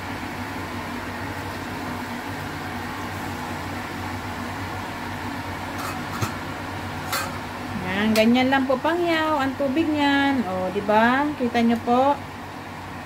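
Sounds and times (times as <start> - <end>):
fan-like mechanical hum: 0.0 - 13.0.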